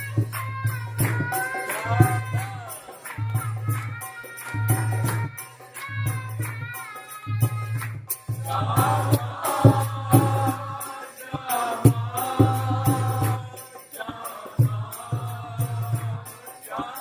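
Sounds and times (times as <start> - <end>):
percussion strokes: 0.0 - 17.0.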